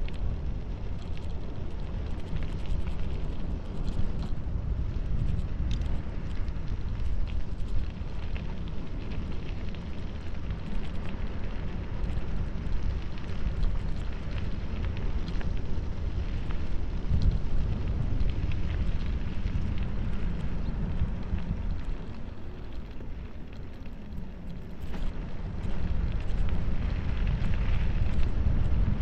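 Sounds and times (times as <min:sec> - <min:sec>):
deep rumble of rolling bicycle: 0:00.0 - 0:29.0
wind buffeting microphone: 0:00.0 - 0:29.0.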